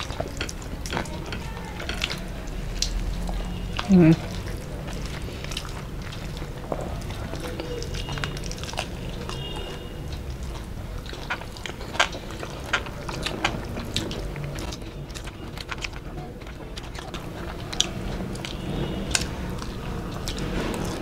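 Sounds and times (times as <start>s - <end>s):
people chewing: 0.0s - 21.0s.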